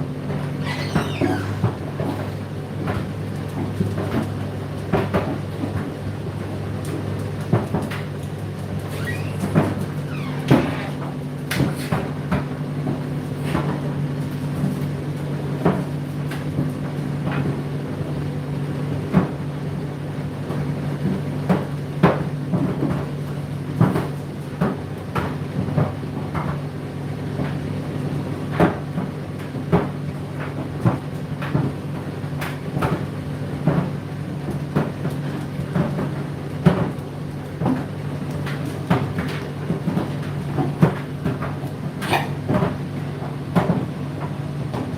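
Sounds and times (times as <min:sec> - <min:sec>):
tumble dryer motor hum: 0:00.0 - 0:44.9.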